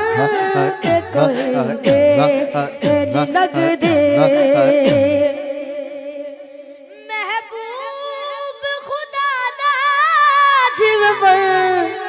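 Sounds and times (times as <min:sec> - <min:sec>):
boy singing into microphone: 0:00.0 - 0:12.0.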